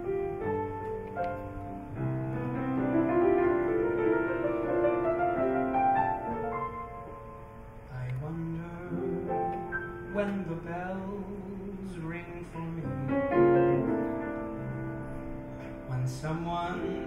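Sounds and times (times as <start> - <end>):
slow jazz piano chords: 0.0 - 17.0.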